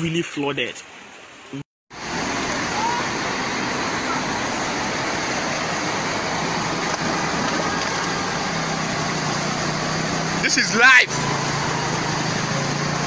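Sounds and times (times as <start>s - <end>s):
flooded river rushing: 1.0s - 13.0s.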